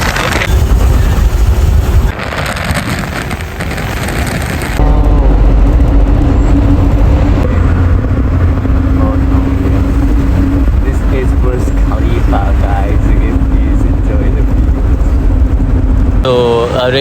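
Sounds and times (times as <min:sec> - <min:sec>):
low road vehicle rumble: 0:00.0 - 0:17.0.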